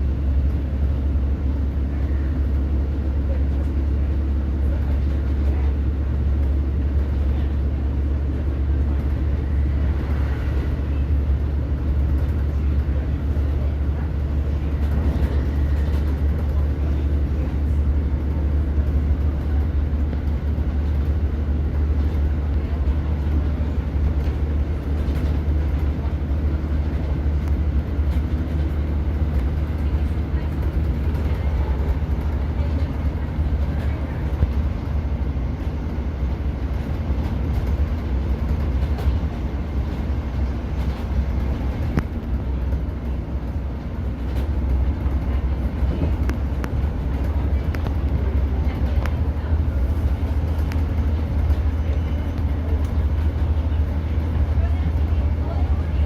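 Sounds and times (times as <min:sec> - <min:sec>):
train diesel engine drone: 0:00.0 - 0:56.0.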